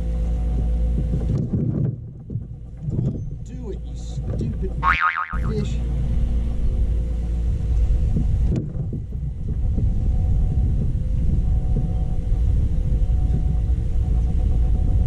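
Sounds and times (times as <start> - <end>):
wind buffeting microphone: 0.5 - 15.0.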